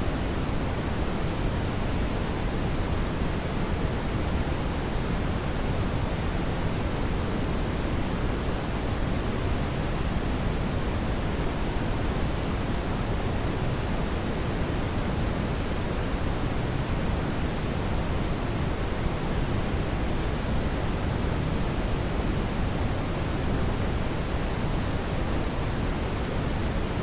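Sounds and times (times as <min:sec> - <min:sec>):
steady brown noise: 0:00.0 - 0:27.0.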